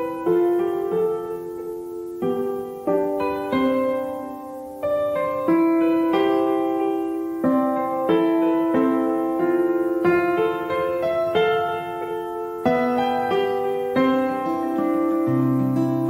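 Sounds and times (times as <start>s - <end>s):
slow piano piece: 0.0s - 16.0s.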